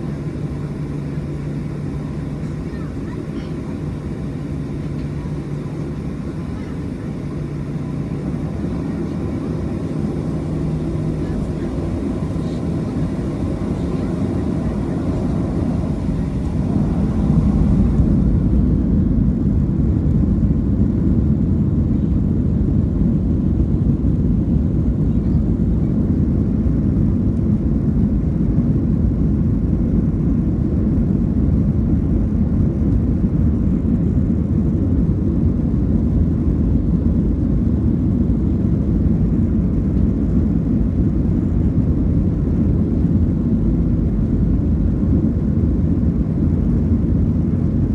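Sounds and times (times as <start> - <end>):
jet engine cabin rumble: 0.0 - 47.9.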